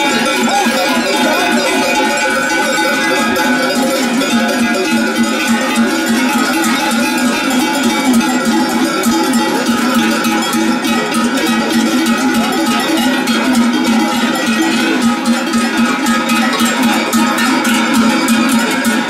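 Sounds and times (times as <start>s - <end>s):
cowbells clanging: 0.0s - 19.0s.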